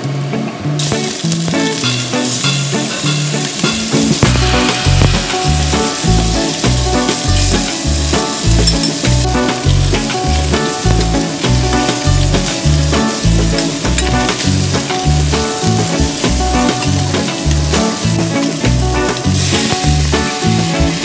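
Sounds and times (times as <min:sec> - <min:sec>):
bass line: 0:00.0 - 0:21.0
fish sizzling in hot oil: 0:00.8 - 0:21.0
background music with steady beat: 0:01.9 - 0:21.0.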